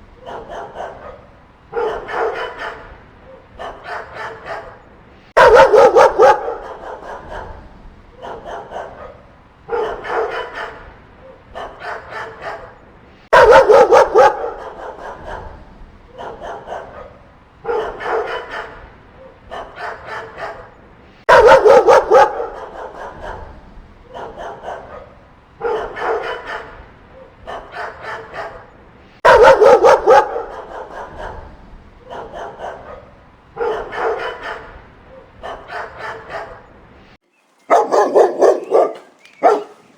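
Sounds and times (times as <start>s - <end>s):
dogs barking: 0.0s - 37.1s, 37.7s - 39.9s.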